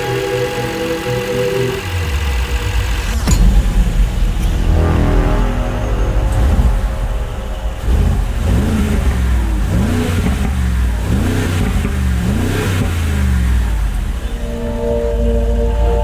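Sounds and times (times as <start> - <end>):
car engine revving over idle: 0.1 - 16.0.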